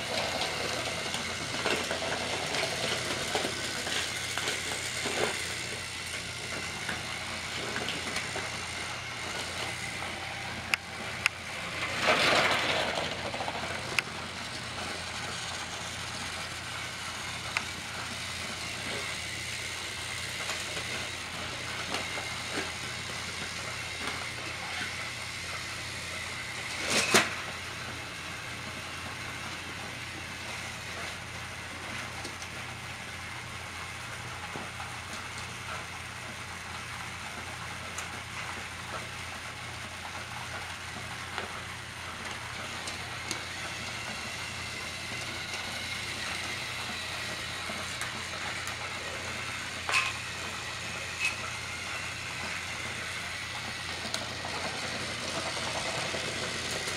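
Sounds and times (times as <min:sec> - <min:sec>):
toy train motors whirring: 0:00.0 - 0:56.9.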